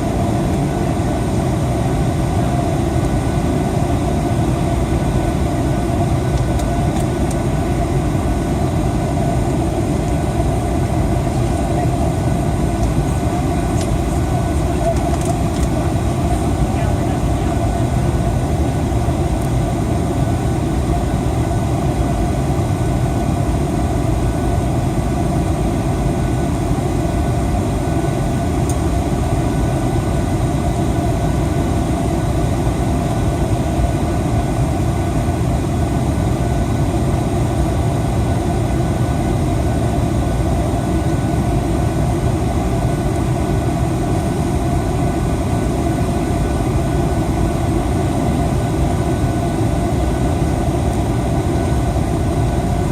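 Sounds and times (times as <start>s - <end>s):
jet engine rumble: 0.0s - 52.9s.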